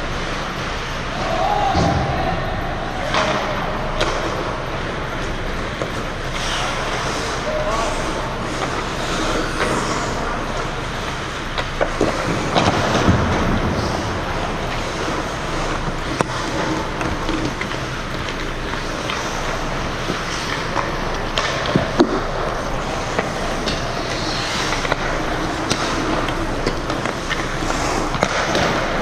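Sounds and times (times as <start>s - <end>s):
sticks and puck clacking: 3.0s - 29.0s
skates scraping on ice: 4.0s - 29.0s.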